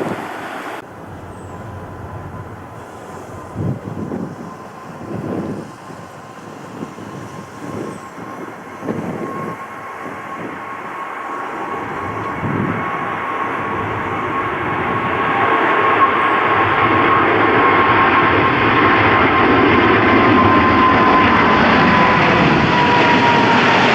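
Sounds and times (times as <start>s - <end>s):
jet airliner engine noise: 0.0s - 23.9s
wind buffeting microphone: 0.0s - 23.9s.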